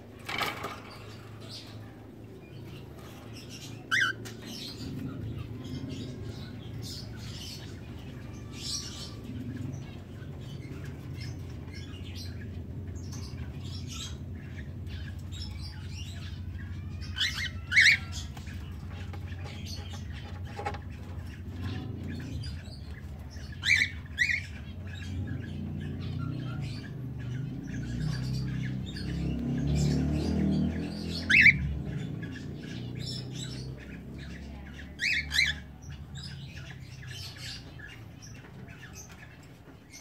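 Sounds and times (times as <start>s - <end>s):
cockatiels chirping: 2.4s - 29.4s, 30.7s - 40.0s.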